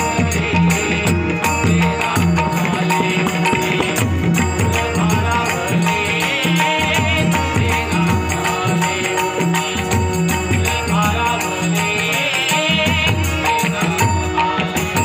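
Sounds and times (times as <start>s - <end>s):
barrel drum and tabla: 0.0s - 15.0s
man singing: 0.0s - 15.0s
metallic percussion: 0.0s - 15.0s.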